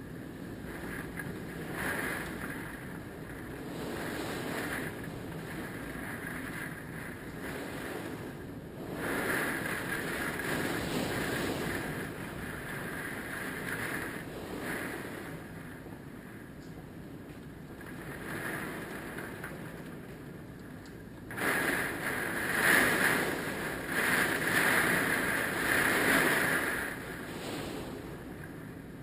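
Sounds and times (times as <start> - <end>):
strong winds gusting: 0.0 - 29.0.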